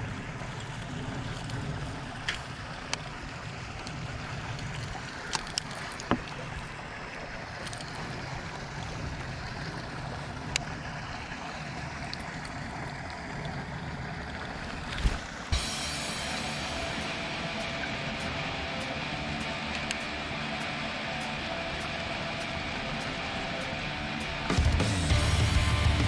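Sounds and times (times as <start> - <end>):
rushing outdoor background noise: 0.0 - 26.0.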